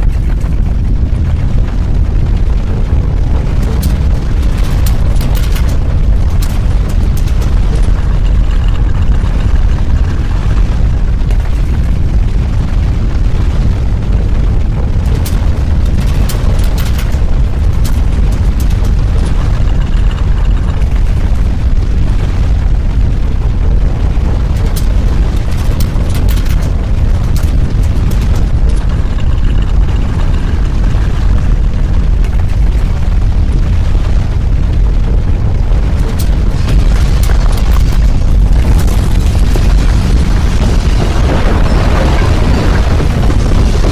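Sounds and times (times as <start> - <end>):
deep continuous rumble: 0.0 - 43.9
sharp cracks and rattles: 0.0 - 43.9.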